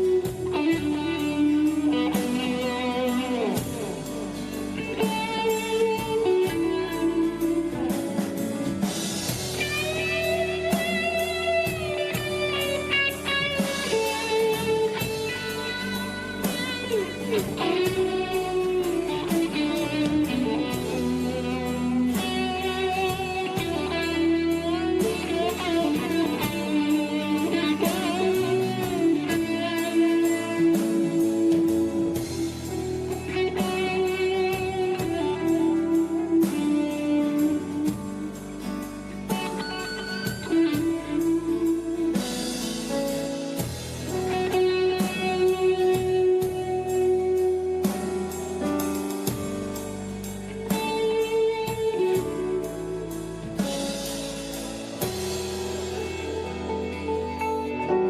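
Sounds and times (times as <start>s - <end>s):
drums and bass: 0.0s - 58.0s
electric guitar lead: 0.0s - 58.0s.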